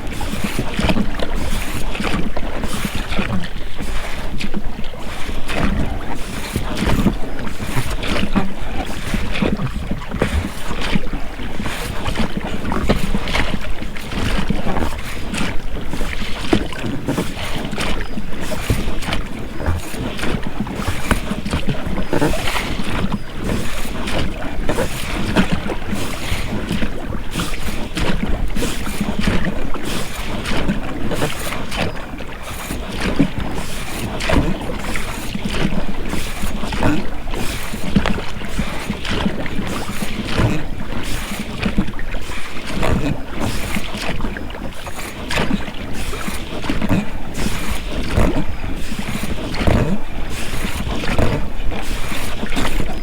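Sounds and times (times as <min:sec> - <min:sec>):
oar blades splashing in water: 0:00.0 - 0:53.0
rubber rowlocks creaking: 0:00.2 - 0:53.0.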